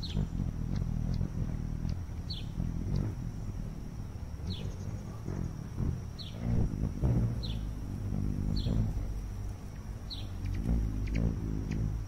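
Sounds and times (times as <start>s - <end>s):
faint steady high whine: 0.0s - 12.0s
hummingbird wings humming: 0.0s - 12.0s.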